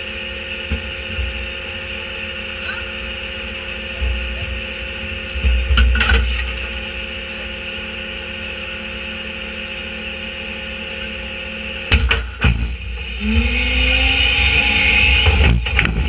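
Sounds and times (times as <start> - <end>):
garbage truck diesel engine running: 0.0 - 16.0.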